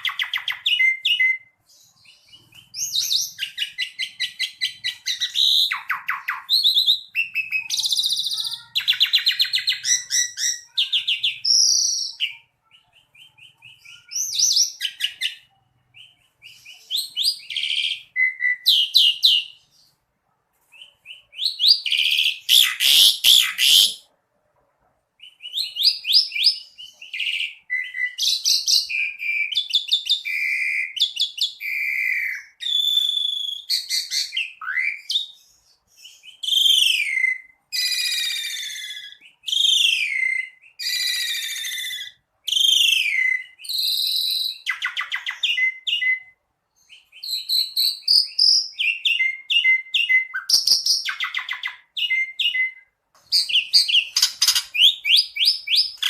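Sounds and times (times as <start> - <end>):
bird singing with whistles and rattles: 0.0 - 20.0, 20.7 - 24.0, 25.2 - 56.0.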